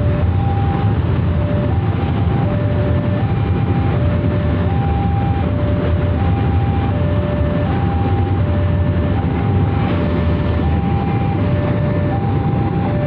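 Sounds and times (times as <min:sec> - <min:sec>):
freight train rumbling past: 0:00.0 - 0:13.0
two-tone electronic warning alarm: 0:00.0 - 0:13.0.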